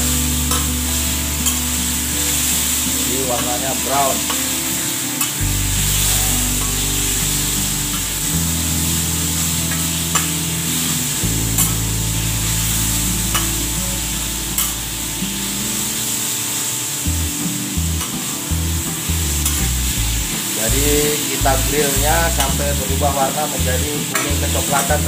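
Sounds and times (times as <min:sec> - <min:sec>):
chicken sizzling on griddle: 0:00.0 - 0:25.0.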